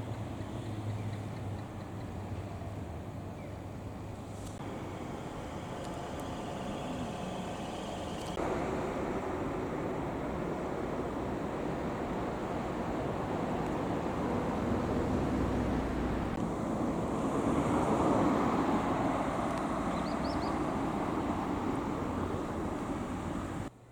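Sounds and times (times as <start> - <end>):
fire truck engine running: 0.0 - 23.8.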